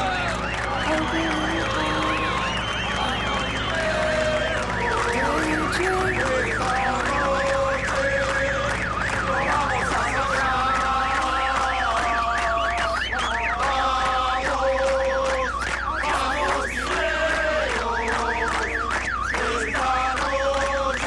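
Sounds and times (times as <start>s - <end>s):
electronic siren sweeping: 0.0s - 21.0s.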